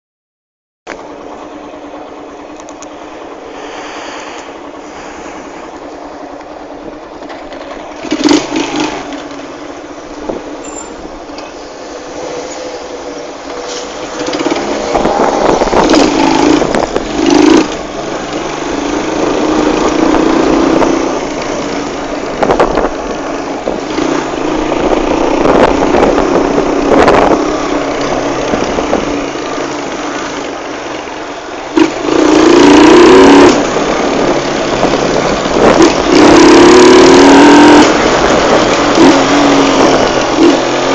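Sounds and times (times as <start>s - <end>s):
motorcycle engine revving: 3.2s - 9.6s, 13.8s - 40.9s.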